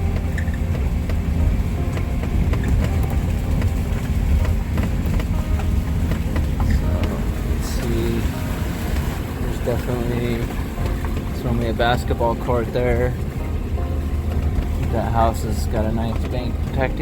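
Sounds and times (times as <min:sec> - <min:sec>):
car engine droning: 0:00.0 - 0:17.0
light rattles and clicks: 0:00.0 - 0:17.0.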